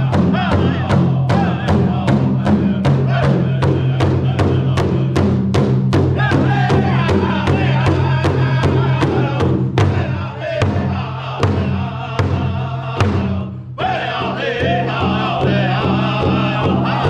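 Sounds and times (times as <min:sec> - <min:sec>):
men singing in high voices: 0:00.0 - 0:05.4, 0:06.1 - 0:17.0
large hide drum beating: 0:00.0 - 0:17.0.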